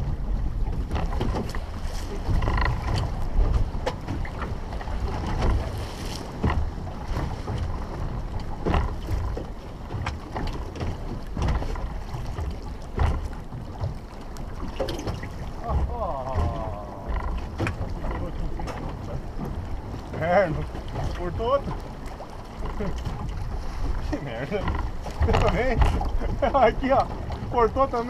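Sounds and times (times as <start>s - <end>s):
water slapping against boat hull: 0.0s - 28.0s
wind buffeting microphone: 0.0s - 28.0s.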